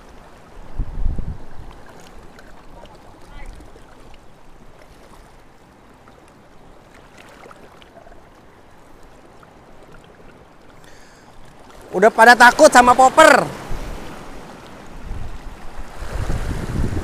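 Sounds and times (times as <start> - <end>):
small waves lapping on rocks: 0.0 - 17.0.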